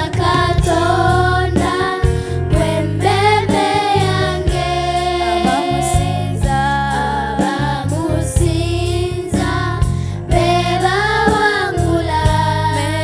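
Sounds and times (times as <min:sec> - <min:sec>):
worship song with singing and beat: 0:00.0 - 0:13.0.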